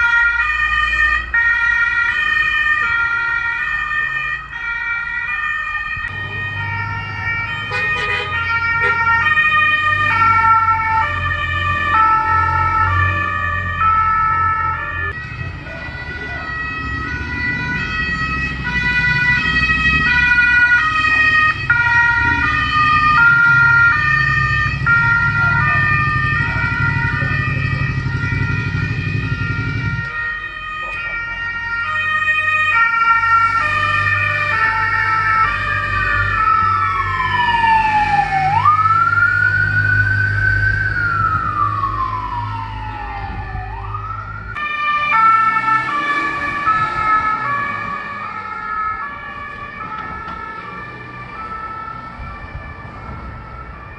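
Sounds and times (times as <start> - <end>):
two-tone police sirens: 0.0 - 53.9.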